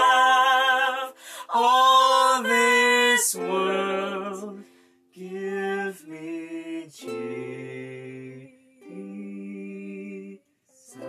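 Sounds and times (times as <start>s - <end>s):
man and woman singing in harmony: 0.0s - 11.0s.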